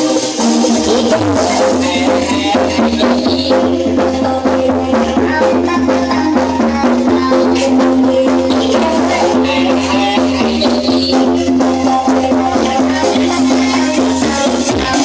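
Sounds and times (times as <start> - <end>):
heavy bass line: 0.0 - 15.0
loud music over sound system: 0.0 - 15.0.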